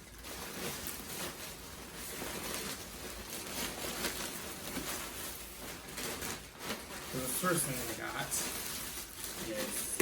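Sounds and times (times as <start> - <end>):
packaging rustling and crinkling: 0.0 - 10.0
small handling sounds: 0.0 - 10.0.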